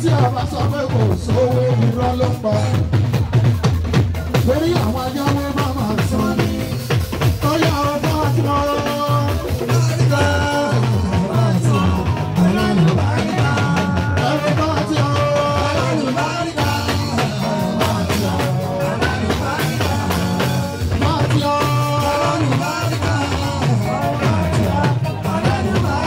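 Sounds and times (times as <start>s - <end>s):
band music: 0.0s - 26.0s
steady drum beat: 0.0s - 26.0s
person singing: 4.3s - 26.0s.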